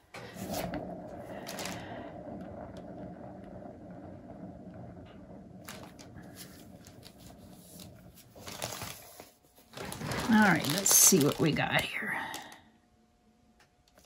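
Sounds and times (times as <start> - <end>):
turntable whirring hum: 0.0 - 12.6.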